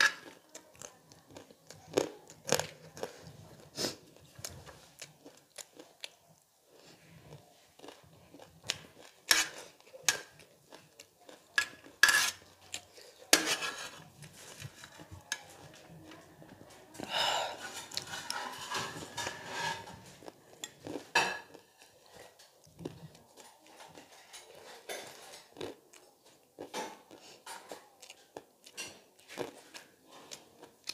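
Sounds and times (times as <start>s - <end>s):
crunchy eating: 0.0s - 30.9s.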